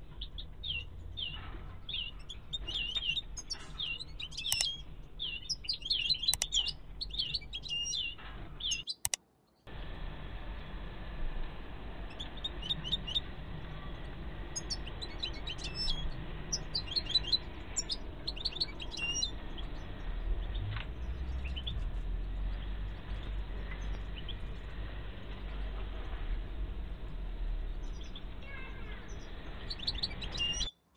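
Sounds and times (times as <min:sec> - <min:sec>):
steady low hum: 0:00.0 - 0:08.8, 0:09.7 - 0:30.7
finches chirping: 0:00.0 - 0:09.2, 0:12.0 - 0:24.8, 0:27.3 - 0:30.8.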